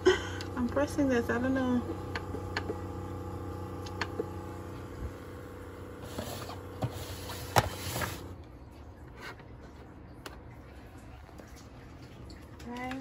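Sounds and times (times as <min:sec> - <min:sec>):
coffee maker humming: 0:00.0 - 0:13.0.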